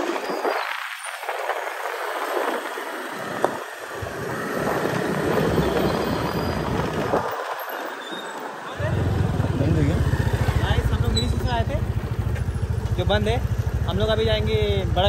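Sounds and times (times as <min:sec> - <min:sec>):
wind rushing over microphone: 0:00.0 - 0:12.3
road noise: 0:00.0 - 0:15.0.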